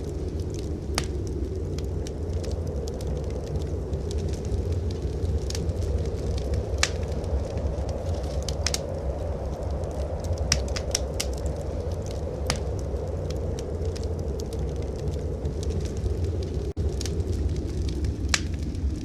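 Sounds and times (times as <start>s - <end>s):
blizzard wind rumble: 0.0s - 19.0s
wood fire crackling: 0.0s - 19.0s.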